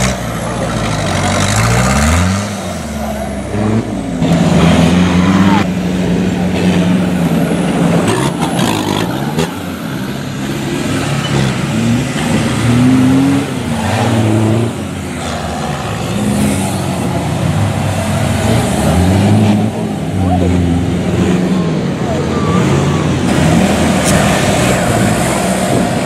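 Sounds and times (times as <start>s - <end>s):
truck engines revving hard: 0.0s - 26.0s.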